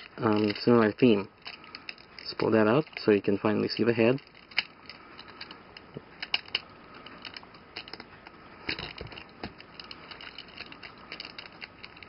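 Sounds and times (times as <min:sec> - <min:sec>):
plastic toy parts clicking: 0:00.0 - 0:12.0.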